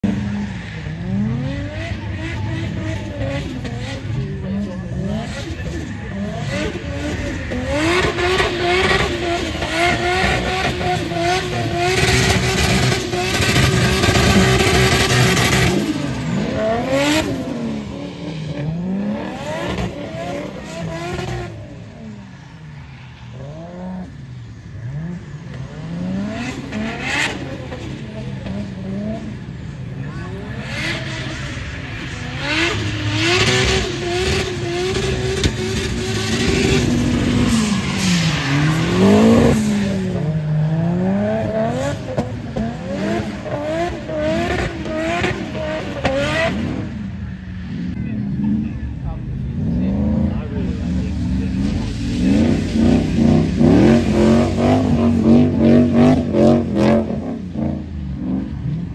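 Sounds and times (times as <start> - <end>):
car engine revving hard: 0.0 - 22.1, 24.8 - 29.5, 30.2 - 47.0, 47.8 - 58.9.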